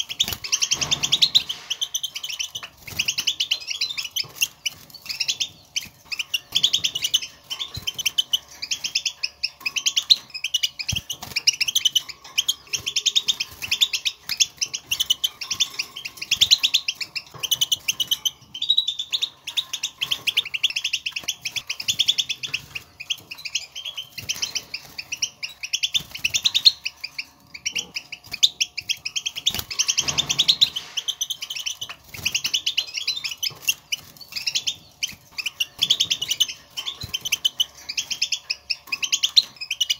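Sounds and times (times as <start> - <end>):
goldfinch twittering: 0.0 - 39.9.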